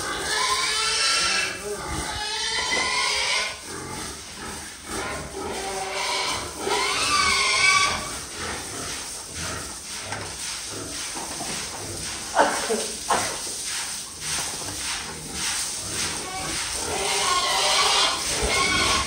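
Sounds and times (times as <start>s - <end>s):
pigs grunting and squealing: 0.0s - 13.4s, 14.2s - 19.0s
hose spraying water: 0.0s - 19.0s.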